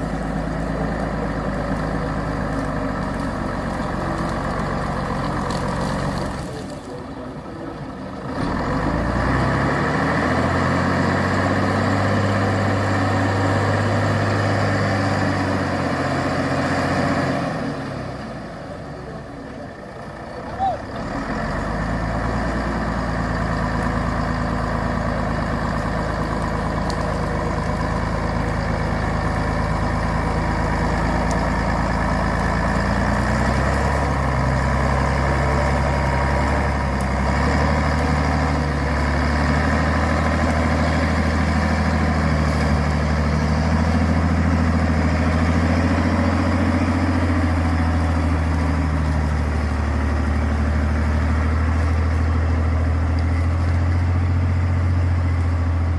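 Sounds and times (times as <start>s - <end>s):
truck engine running: 0.0s - 55.9s.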